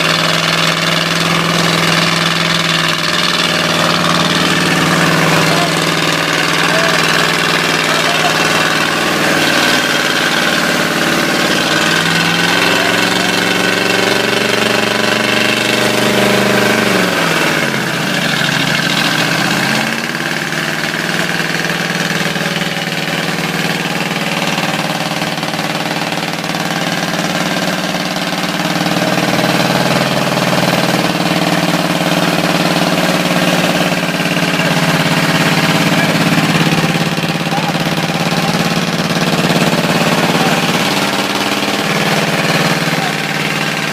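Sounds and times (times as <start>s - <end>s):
engine revving: 0.0s - 43.9s.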